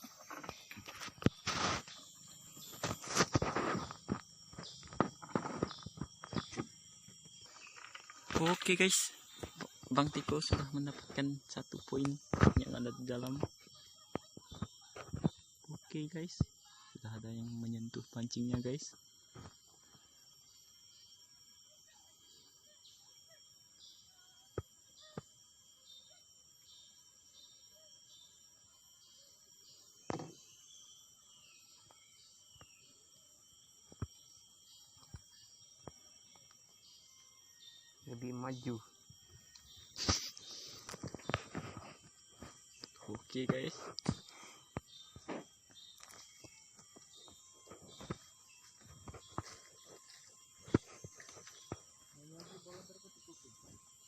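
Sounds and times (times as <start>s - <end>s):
faint outdoor background: 0.0s - 54.0s
insects droning: 0.0s - 54.0s
pulsing insect chirp: 0.0s - 54.0s.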